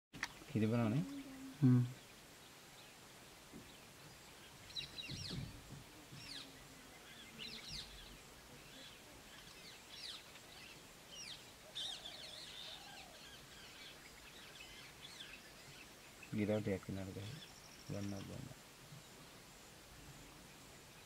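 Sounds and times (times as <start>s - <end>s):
background hiss: 0.2s - 21.0s.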